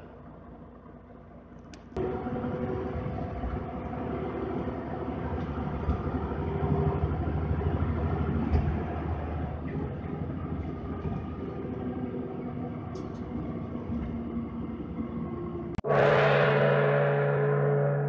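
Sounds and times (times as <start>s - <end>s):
bus engine and road rumble: 0.0s - 15.8s.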